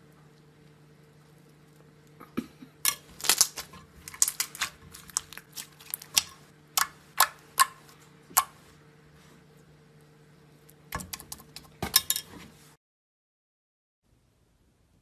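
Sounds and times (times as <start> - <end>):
faint steady hum: 0.0 - 12.8, 14.1 - 15.0.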